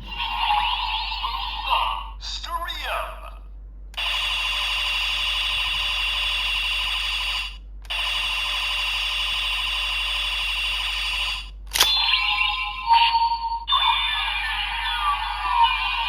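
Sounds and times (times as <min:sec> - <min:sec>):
buzzing alarm-like toy tone: 0:00.1 - 0:01.7, 0:04.0 - 0:16.0.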